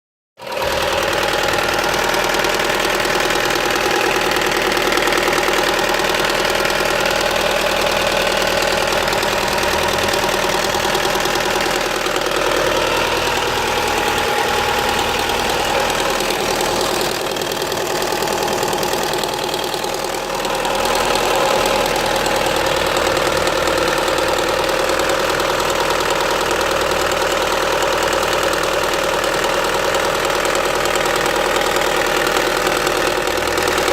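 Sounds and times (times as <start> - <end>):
car engine running: 0.4 - 33.9.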